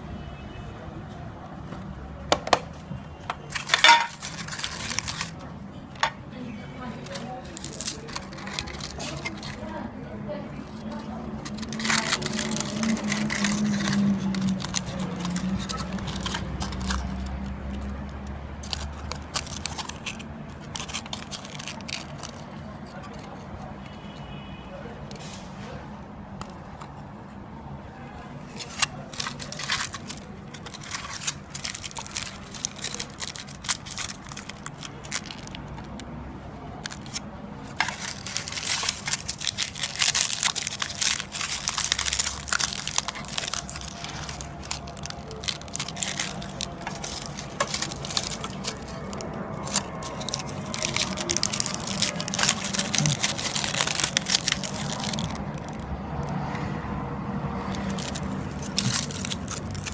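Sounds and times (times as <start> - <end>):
foil wrappers crinkling: 3.2 - 6.2, 6.8 - 23.4, 28.4 - 56.3, 57.6 - 59.9.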